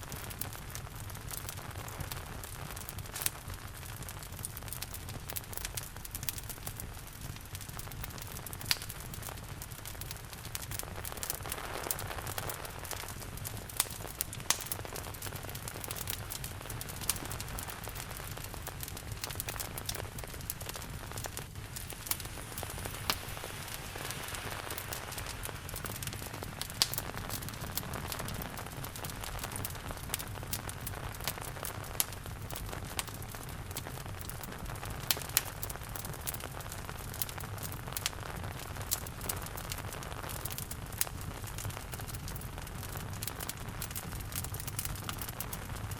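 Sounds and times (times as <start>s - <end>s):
steady rain falling: 0.0s - 45.9s
wood fire crackling: 0.0s - 45.9s.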